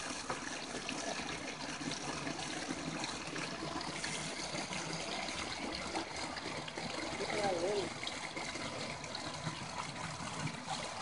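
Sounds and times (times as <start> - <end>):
creek flowing: 0.0 - 11.0
water pouring from hose: 0.0 - 11.0.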